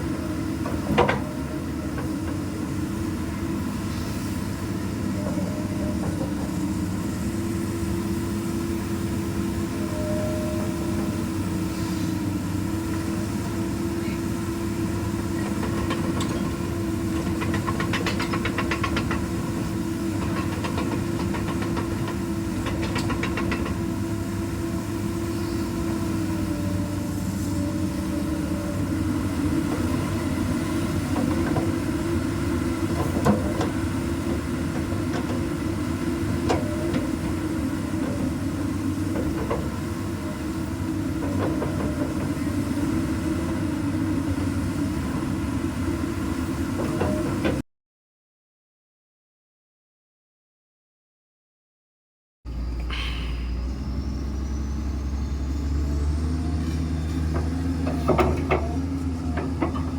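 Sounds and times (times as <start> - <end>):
excavator diesel engine running: 0.0 - 47.6, 52.5 - 59.9.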